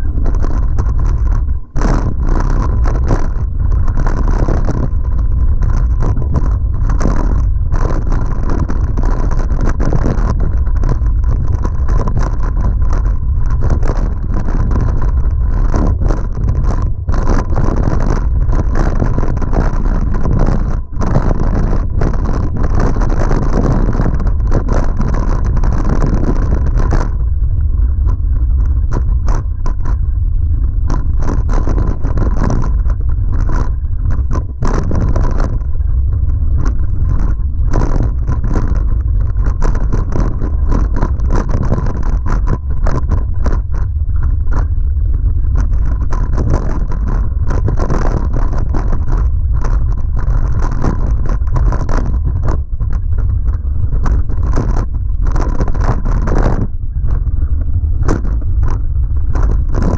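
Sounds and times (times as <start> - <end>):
bike rattling and knocking: 0.0 - 59.9
low rumble of wind: 0.0 - 59.9.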